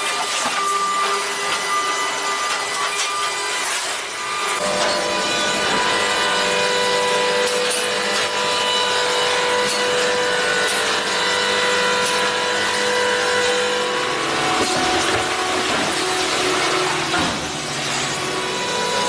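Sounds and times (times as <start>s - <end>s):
hydraulic baler mechanical whine: 0.0s - 19.0s.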